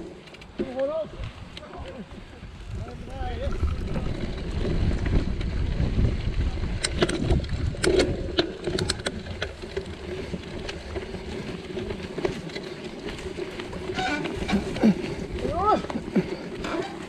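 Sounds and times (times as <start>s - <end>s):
bike clicking and rattling: 0.0s - 17.0s
bike tyres on dirt trail: 0.0s - 17.0s
wind buffeting microphone: 1.0s - 16.7s.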